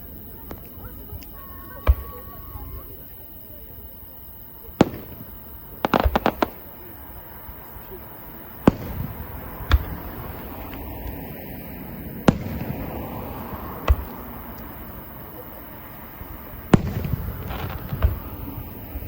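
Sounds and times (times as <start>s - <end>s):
firework booms: 0.4s - 2.9s, 4.6s - 19.0s.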